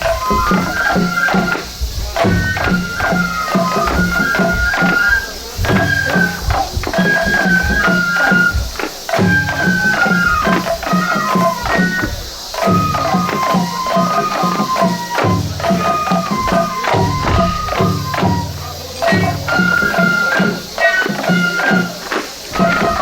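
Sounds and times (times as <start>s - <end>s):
clicking jingling percussion: 0.0s - 23.0s
high flute melody: 0.0s - 23.0s
taiko drum strokes: 0.0s - 23.0s.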